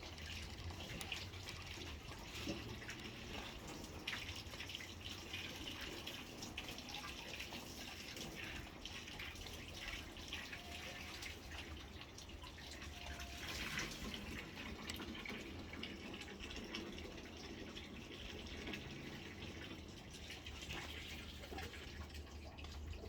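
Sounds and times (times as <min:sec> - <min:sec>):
running water trickling: 0:00.0 - 0:23.0
water dripping: 0:00.0 - 0:23.0.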